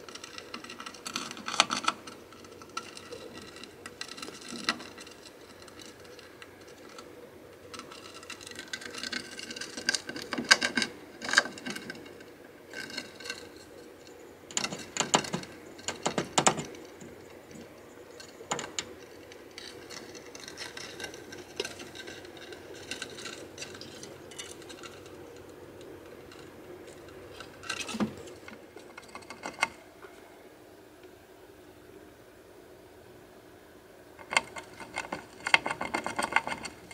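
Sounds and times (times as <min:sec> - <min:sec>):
hamster gnawing and scrabbling: 0:00.0 - 0:29.9, 0:34.2 - 0:36.9.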